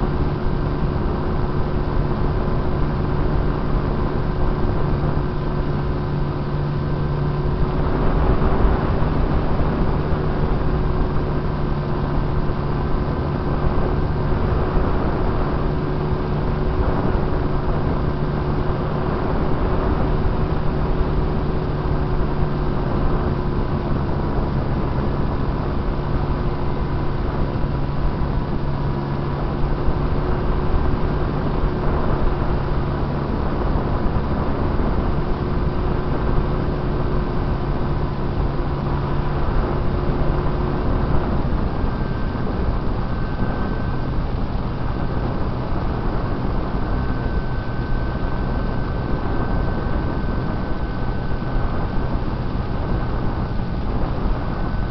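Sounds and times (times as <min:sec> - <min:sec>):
air rushing over microphone: 0:00.0 - 0:54.9
model airplane motor and propeller: 0:00.0 - 0:54.9.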